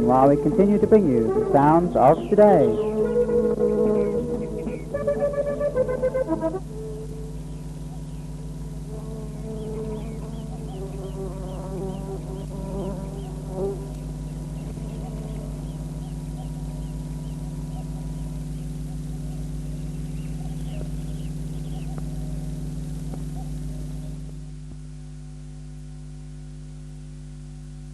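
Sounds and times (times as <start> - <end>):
low electrical mains hum: 0.0 - 27.9.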